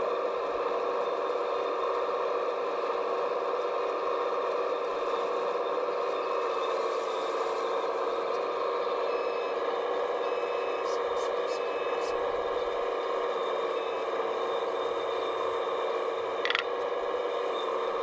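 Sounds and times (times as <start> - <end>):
mechanical whirring hum: 0.0 - 18.0.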